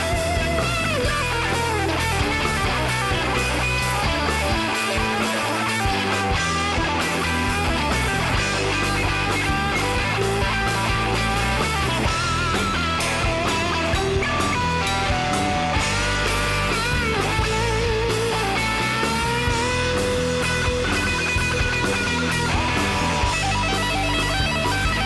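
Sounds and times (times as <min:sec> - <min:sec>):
electric guitar rock music: 0:00.0 - 0:25.0.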